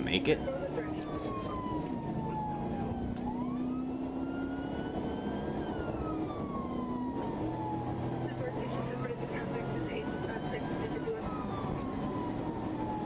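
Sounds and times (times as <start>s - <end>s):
engine and road noise: 0.0s - 13.0s
police siren wailing: 0.0s - 13.0s.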